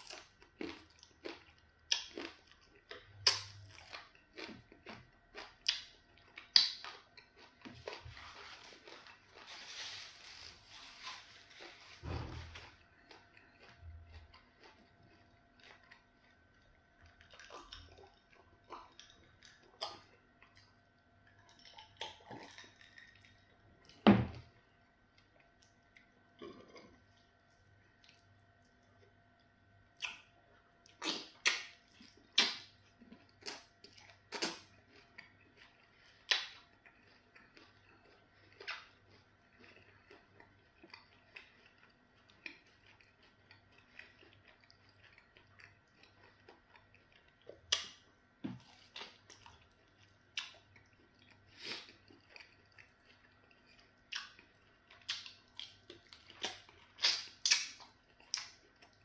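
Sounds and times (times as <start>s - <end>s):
wet chewing and lip-smacking: 0.0s - 9.5s, 12.6s - 24.0s, 30.0s - 59.0s.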